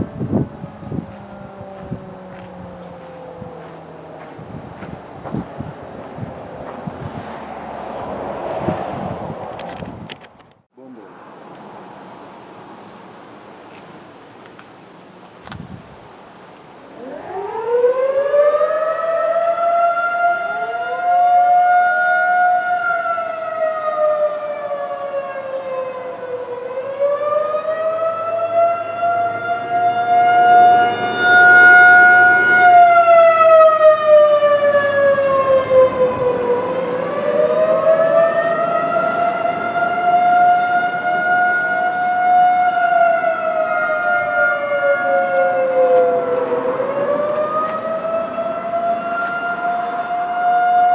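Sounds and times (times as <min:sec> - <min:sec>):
tornado siren wailing: 0:00.0 - 0:09.8, 0:16.8 - 0:50.9.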